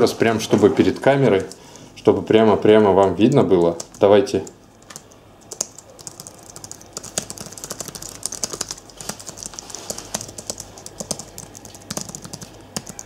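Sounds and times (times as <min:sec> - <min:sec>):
fast keyboard typing: 0:00.4 - 0:01.6, 0:02.7 - 0:13.0.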